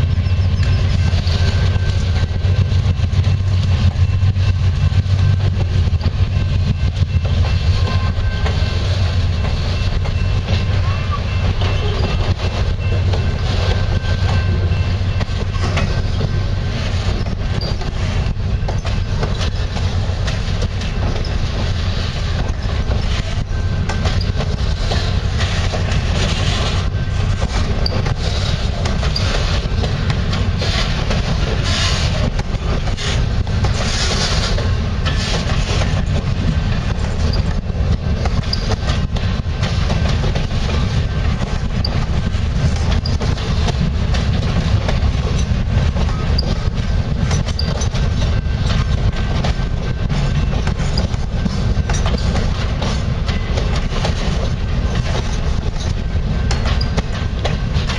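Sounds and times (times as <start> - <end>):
train wheels rumbling on rails: 0.0 - 57.9
wheels clacking over rail joints: 0.0 - 57.9.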